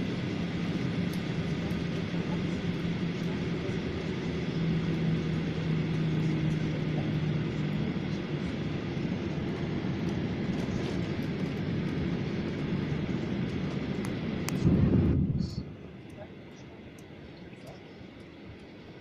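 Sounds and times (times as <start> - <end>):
jet engines and rushing air: 0.0 - 19.0
low hum: 0.0 - 19.0.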